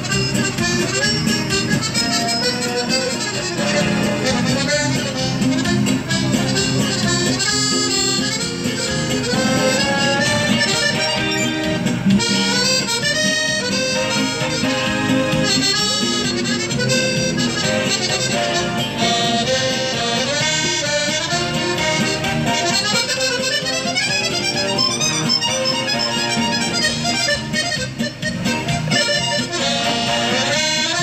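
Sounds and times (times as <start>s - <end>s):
accordion-like melody: 0.0s - 31.0s
live dance band music: 0.0s - 31.0s.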